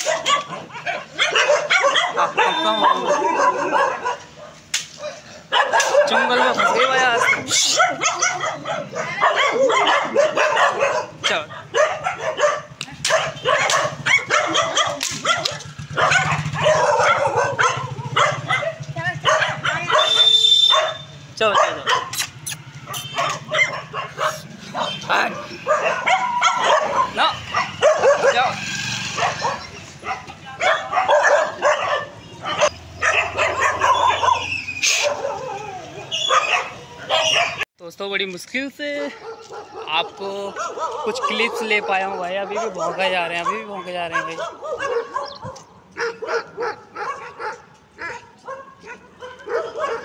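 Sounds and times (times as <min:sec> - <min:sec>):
dogs barking and yipping: 0:00.0 - 0:37.7, 0:38.9 - 0:50.0.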